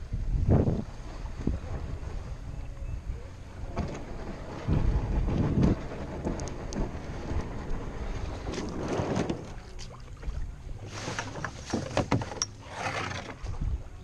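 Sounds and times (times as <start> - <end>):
wind buffeting microphone: 0.0 - 11.0, 13.4 - 14.0
canoe hull scraping on concrete: 0.6 - 13.9.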